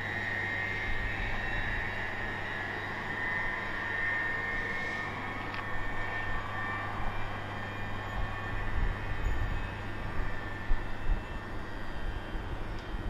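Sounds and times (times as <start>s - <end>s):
train high whine and hum: 0.0s - 13.0s.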